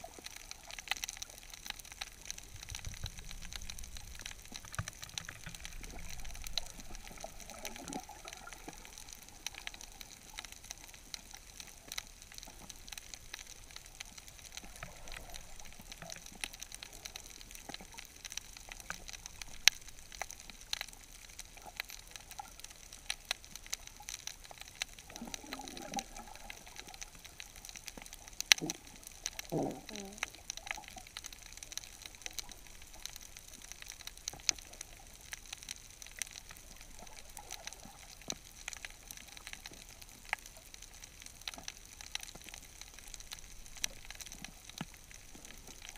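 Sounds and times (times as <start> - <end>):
low gurgles: 0.0 - 45.9
sharp underwater clicks and crackles: 0.0 - 45.9.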